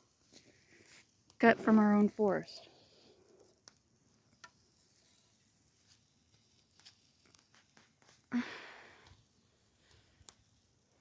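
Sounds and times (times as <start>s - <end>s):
campfire crackling: 0.0s - 11.0s
fire popping: 0.0s - 11.0s.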